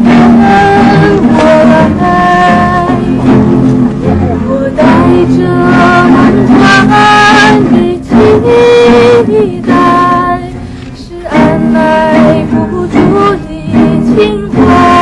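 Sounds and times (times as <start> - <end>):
person singing long notes: 0.0 - 3.4, 4.2 - 15.0
pop band accompaniment: 0.0 - 15.0.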